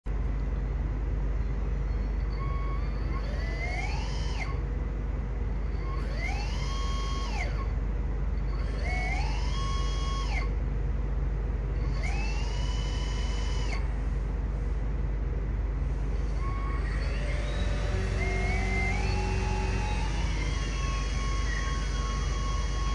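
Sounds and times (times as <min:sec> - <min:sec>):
steady low hum: 0:00.1 - 0:22.9
thruster motors whining: 0:01.8 - 0:14.8, 0:15.6 - 0:22.9.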